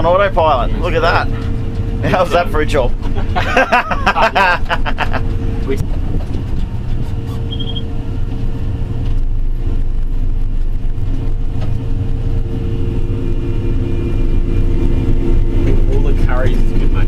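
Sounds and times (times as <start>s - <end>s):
crop sprayer engine rumble: 0.0s - 17.0s.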